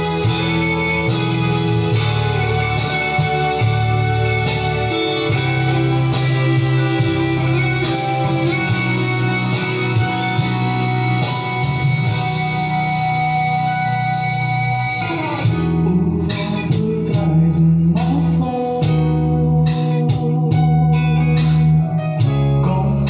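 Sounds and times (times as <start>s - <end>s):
pop band instrumental with guitar: 0.0s - 23.0s.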